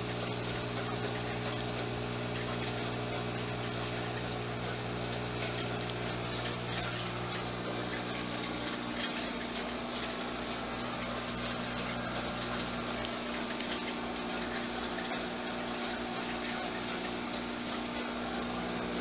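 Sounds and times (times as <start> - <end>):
low electrical hum: 0.0 - 19.0
water bubbling and splashing: 0.0 - 19.0.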